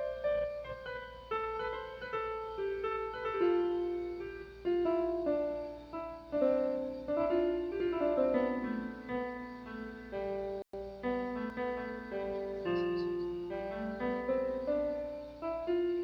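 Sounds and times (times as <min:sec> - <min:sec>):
piano melody over chords: 0:00.0 - 0:16.0.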